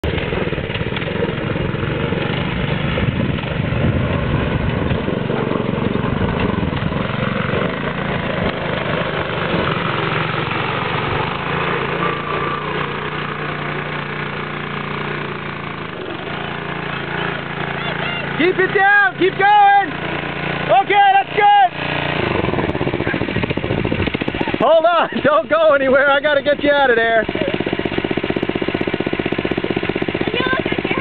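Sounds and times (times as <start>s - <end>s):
go-kart engine straining: 0.0s - 31.0s.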